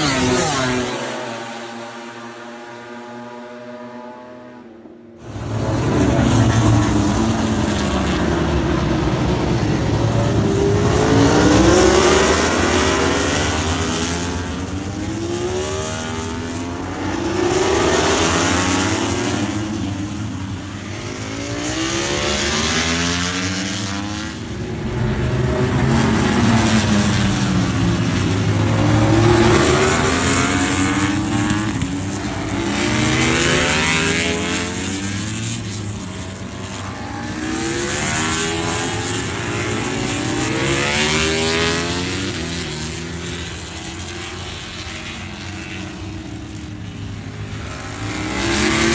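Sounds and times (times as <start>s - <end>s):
racing motorcycles passing: 0.0s - 48.9s.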